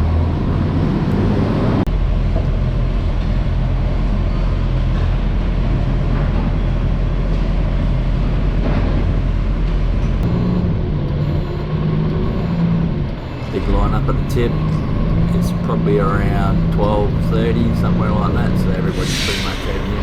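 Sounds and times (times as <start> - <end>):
garbage truck engine rumbling: 0.0 - 20.0.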